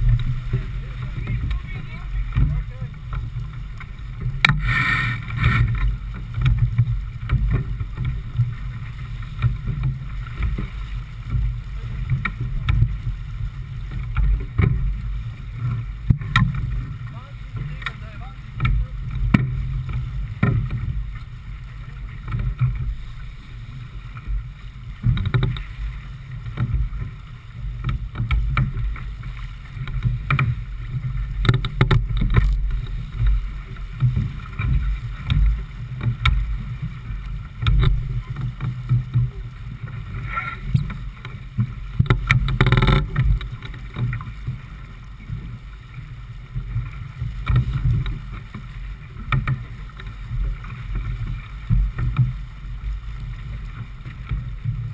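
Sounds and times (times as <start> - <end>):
water rushing along hull: 0.0 - 54.9
wind on microphone: 0.0 - 54.9.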